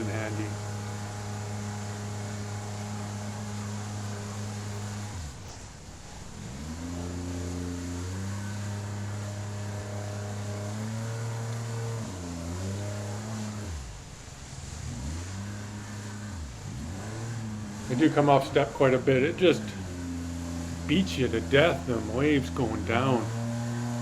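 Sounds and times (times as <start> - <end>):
jet boat motor running: 0.0 - 24.0.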